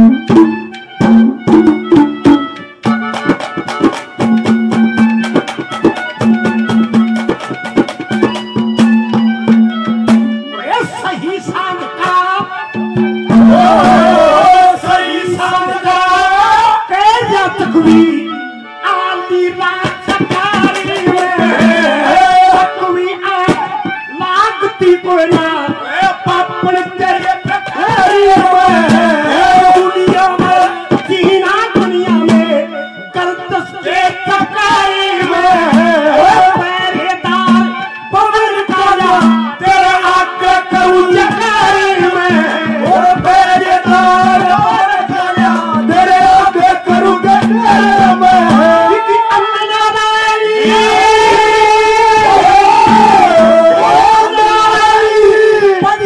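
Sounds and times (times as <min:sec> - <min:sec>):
hand drum rhythm: 0:00.0 - 0:15.6, 0:19.6 - 0:49.1, 0:50.6 - 0:56.0
harmonium: 0:00.0 - 0:56.0.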